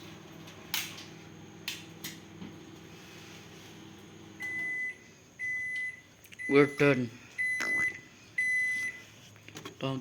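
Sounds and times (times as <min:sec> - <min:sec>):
microwave oven humming: 0:00.0 - 0:09.1.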